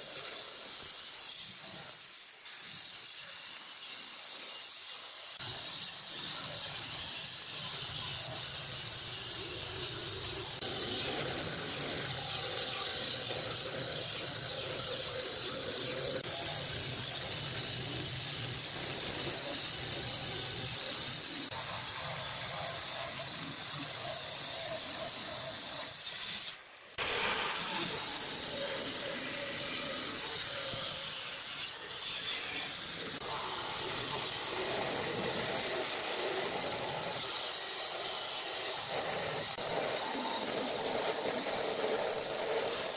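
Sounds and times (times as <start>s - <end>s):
stone cutter grinding granite: 0.0s - 42.9s.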